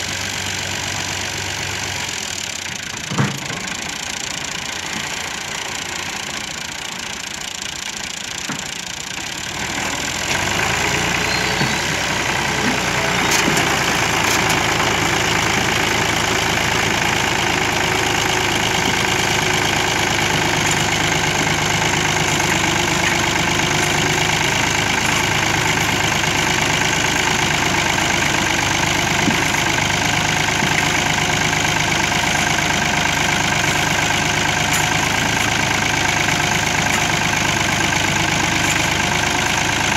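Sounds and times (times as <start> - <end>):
tractor diesel engine straining: 0.0 - 39.9.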